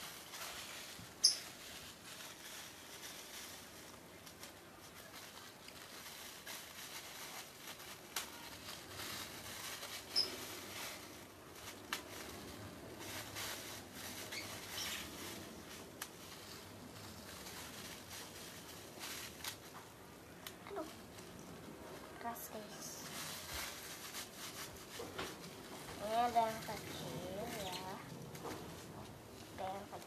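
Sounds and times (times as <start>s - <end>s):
plastic bag rustling and crinkling: 0.0s - 30.0s.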